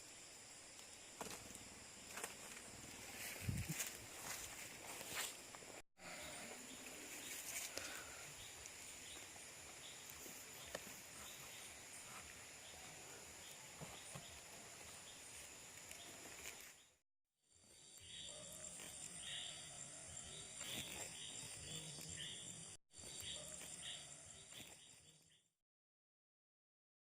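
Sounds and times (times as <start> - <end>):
soft insect chirp: 0.0 - 16.9, 17.5 - 25.5.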